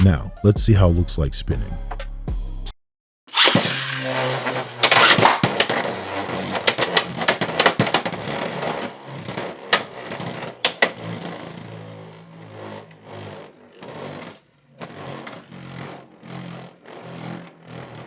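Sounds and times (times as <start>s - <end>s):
spinning top launcher rip: 3.3s - 18.0s
spinning top whirring: 3.3s - 18.0s.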